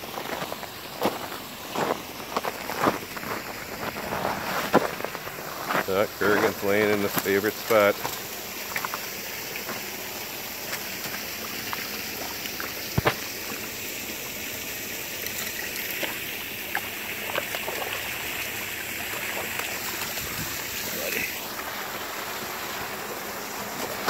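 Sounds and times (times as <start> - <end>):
creek water running over rocks: 0.0 - 24.0.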